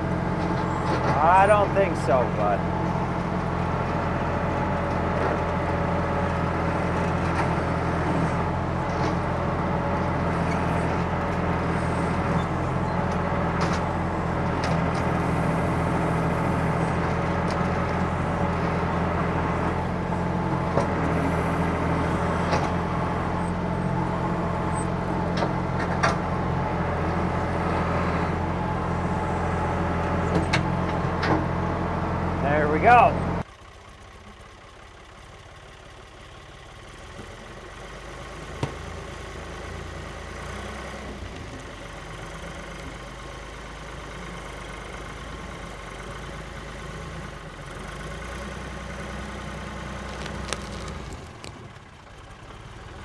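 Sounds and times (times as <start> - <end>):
backhoe engine under load: 0.0 - 53.0.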